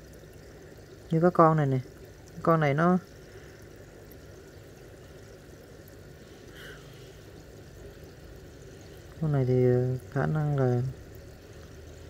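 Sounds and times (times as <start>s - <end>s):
faint running water: 0.0s - 12.0s.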